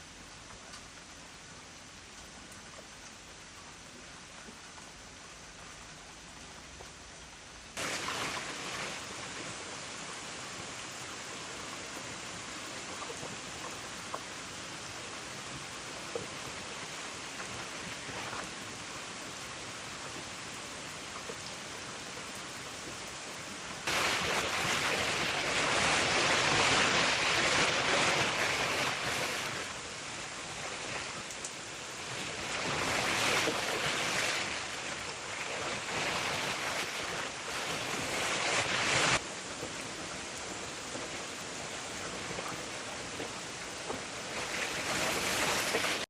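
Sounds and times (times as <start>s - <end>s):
heavy surging downpour: 0.0s - 46.0s
rain falling: 0.0s - 46.0s.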